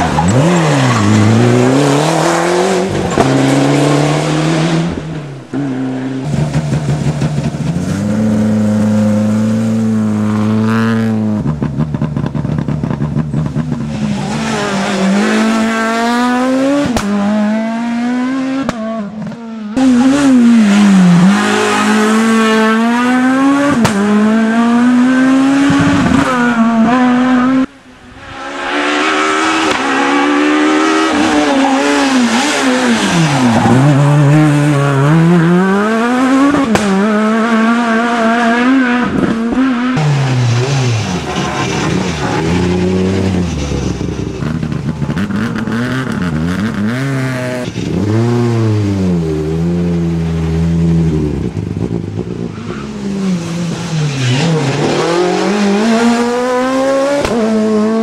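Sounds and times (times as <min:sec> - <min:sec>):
rally cars revving past: 0:00.0 - 0:58.0.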